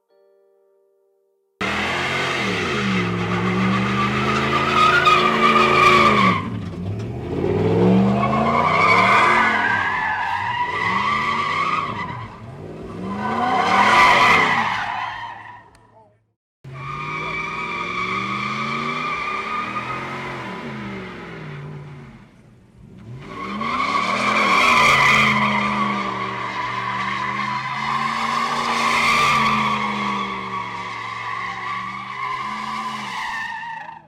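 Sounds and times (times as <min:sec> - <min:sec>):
engine revving: 0:01.6 - 0:14.7, 0:16.7 - 0:33.0
car tyres squealing: 0:01.6 - 0:16.1, 0:16.7 - 0:34.0.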